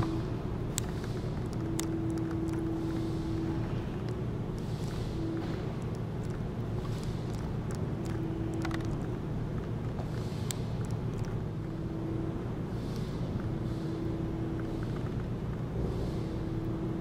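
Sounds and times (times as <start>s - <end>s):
hum: 0.0s - 17.0s
low mechanical rumble: 0.0s - 17.0s.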